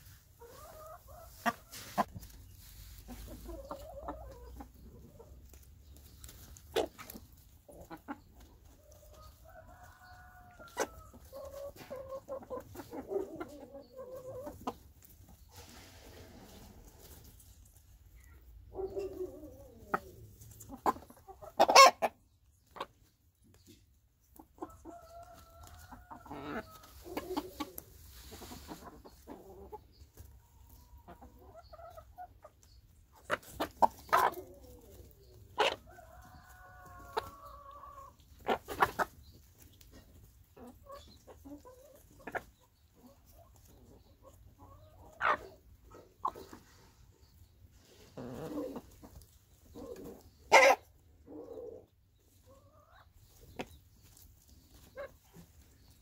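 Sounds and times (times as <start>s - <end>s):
hens clucking: 0.0s - 56.0s
hens pecking bread: 0.0s - 56.0s.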